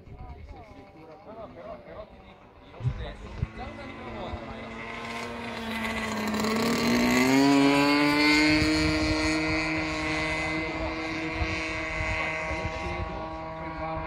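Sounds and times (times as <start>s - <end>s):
model plane engine and propeller: 0.0s - 14.0s.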